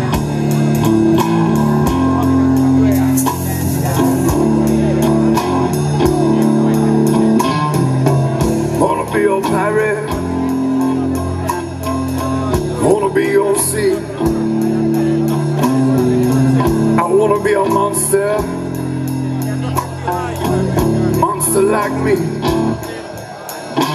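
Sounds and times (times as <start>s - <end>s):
bass chords: 0.0s - 23.9s
drum and cymbal beat: 0.0s - 23.9s
electric guitar chords: 0.0s - 23.9s.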